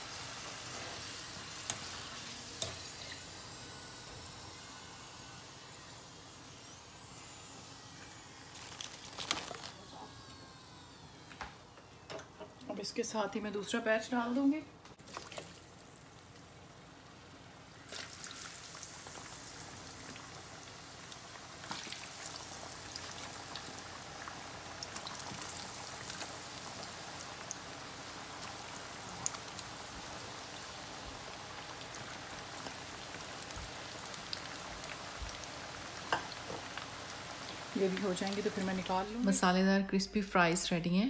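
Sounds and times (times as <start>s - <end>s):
fries sizzling in hot oil: 0.0s - 11.6s, 15.0s - 39.6s.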